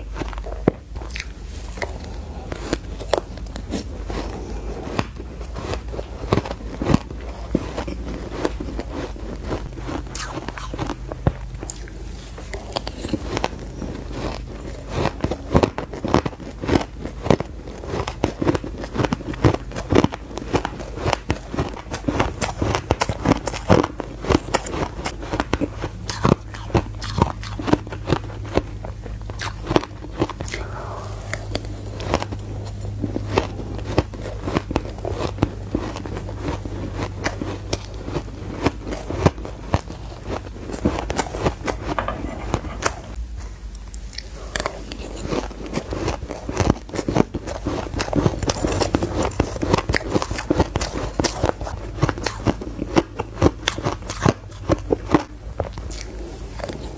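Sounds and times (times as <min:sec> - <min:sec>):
ice being chewed and crunched: 0:00.0 - 0:56.9.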